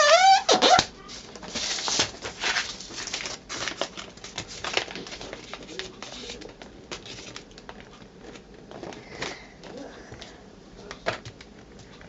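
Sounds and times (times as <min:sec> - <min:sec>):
paper rustling and creasing: 0:00.0 - 0:10.1.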